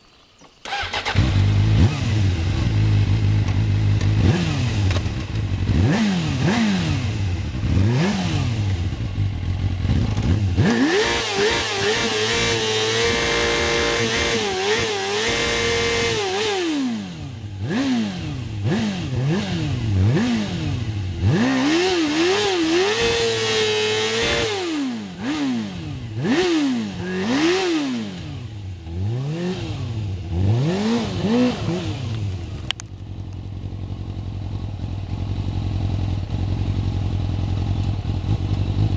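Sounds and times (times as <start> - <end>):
motorcycle engine revving: 0.6 - 38.9.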